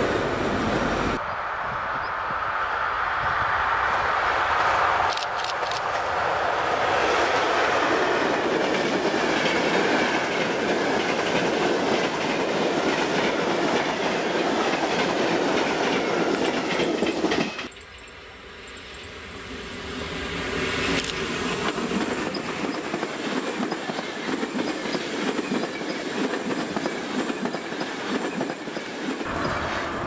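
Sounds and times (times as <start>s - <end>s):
train approaching: 0.0s - 30.0s
train passing rumble: 0.0s - 30.0s.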